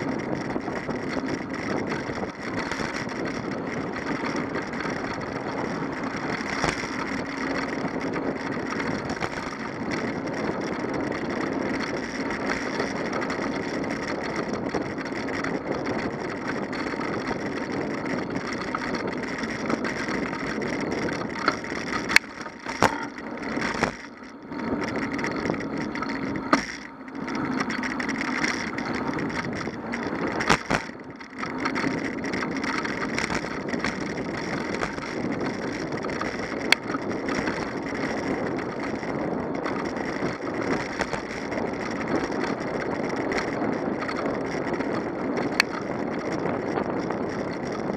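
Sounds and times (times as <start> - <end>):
bicycle rolling noise: 0.0 - 47.9
wind noise: 0.0 - 47.9.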